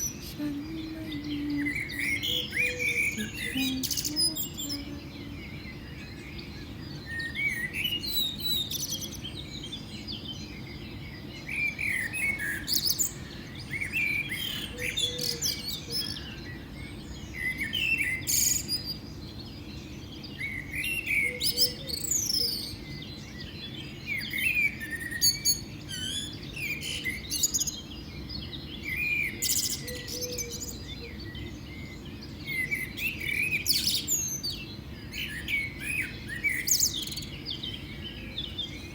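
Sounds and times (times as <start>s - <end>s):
birds chirping: 0.0s - 38.9s
low background hum: 0.0s - 38.9s.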